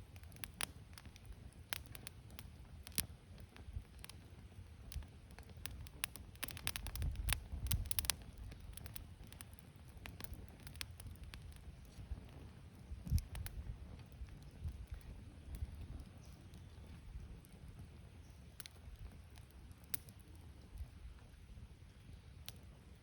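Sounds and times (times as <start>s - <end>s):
campfire crackling: 0.0s - 23.0s
low fire rumble: 0.0s - 23.0s.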